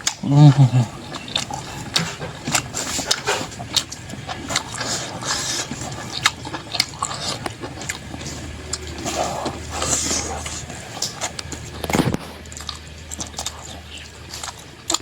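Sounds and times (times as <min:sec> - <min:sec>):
mouth clicks and smacks: 0:00.0 - 0:15.0
person chewing food: 0:00.0 - 0:15.0.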